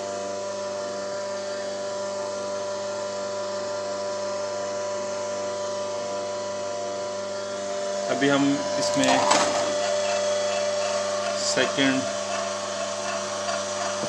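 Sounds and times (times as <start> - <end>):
oil-press motor hum: 0.0 - 14.0.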